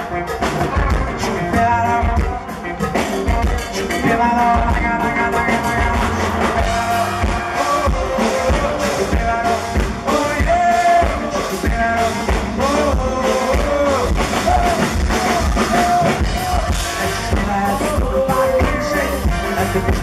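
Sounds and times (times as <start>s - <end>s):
live rock band playing: 0.0s - 20.0s
melodic lead line: 0.0s - 20.0s.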